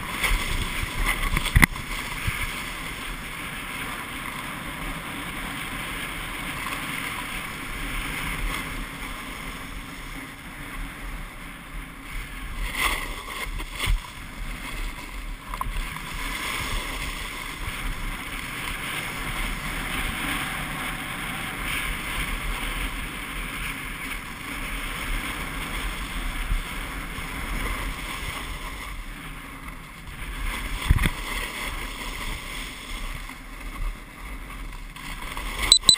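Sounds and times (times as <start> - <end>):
skis sliding on snow: 0.0 - 29.6.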